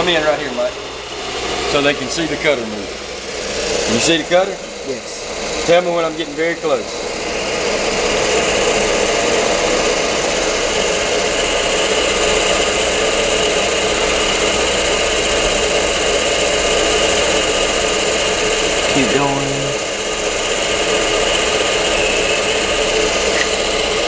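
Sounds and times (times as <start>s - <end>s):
brake lathe whirring: 0.0s - 24.0s.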